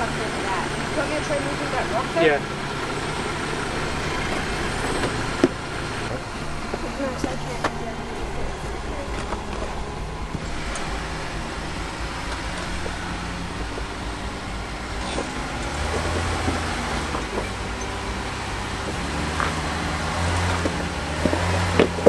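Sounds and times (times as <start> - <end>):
vehicle engine droning at low speed: 0.0 - 22.0.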